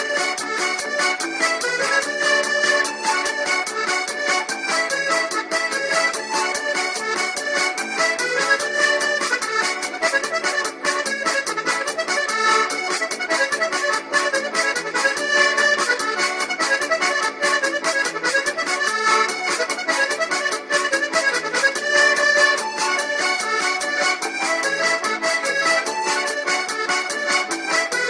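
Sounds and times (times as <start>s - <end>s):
music with fast steady beat: 0.0s - 28.0s.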